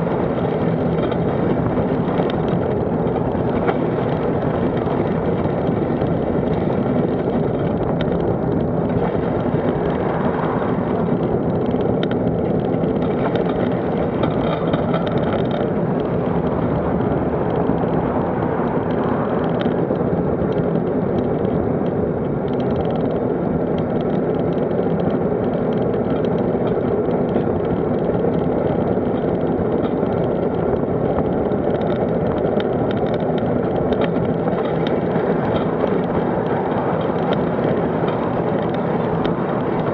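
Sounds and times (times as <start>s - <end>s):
passing traffic: 0.0s - 39.9s
vehicle rumbling along road: 0.0s - 39.9s
wind noise on microphone: 0.0s - 39.9s.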